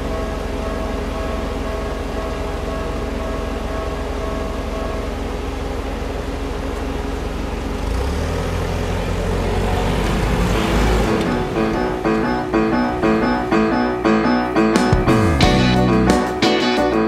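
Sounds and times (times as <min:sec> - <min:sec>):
crossing warning bell ringing: 0:00.0 - 0:07.6, 0:10.4 - 0:17.0
low rumble of vehicle engines: 0:00.0 - 0:16.1
truck engine passing: 0:00.0 - 0:17.0.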